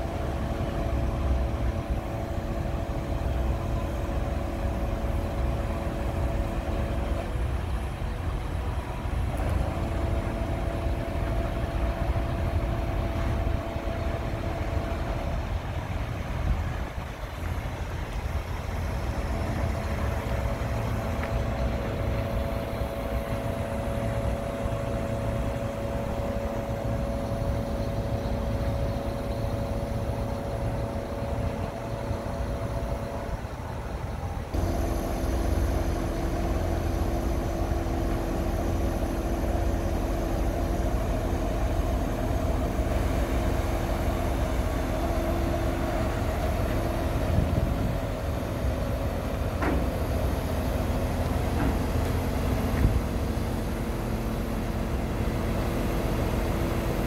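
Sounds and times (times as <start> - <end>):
diesel truck engine rumble: 0.0 - 57.0
hydraulic drive hum: 0.0 - 57.0.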